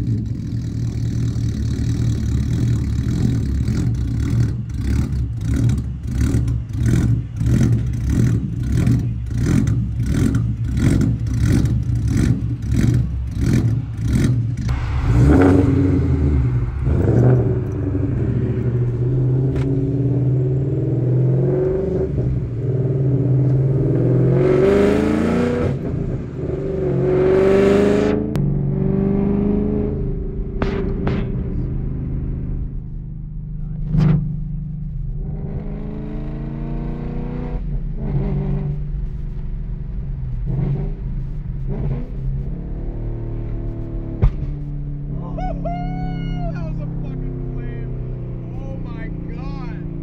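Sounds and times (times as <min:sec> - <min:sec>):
car engine idling with choppy lope: 0:00.0 - 0:27.2, 0:29.7 - 0:50.0
car engine accelerating: 0:00.0 - 0:50.0.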